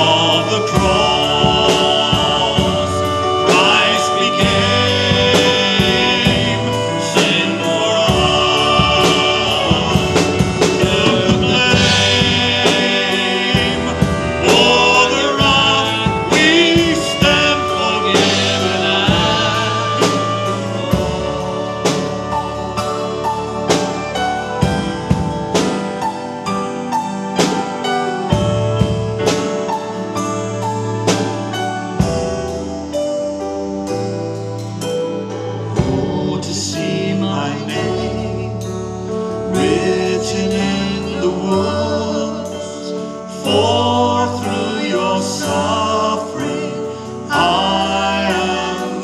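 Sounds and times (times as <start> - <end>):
person singing: 0.0 - 33.2, 34.6 - 49.0
band with drum kit: 0.0 - 49.0.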